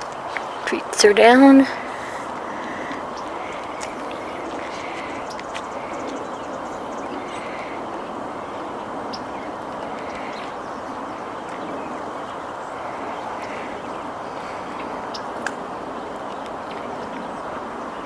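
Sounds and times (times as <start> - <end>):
distant traffic: 0.0 - 18.0.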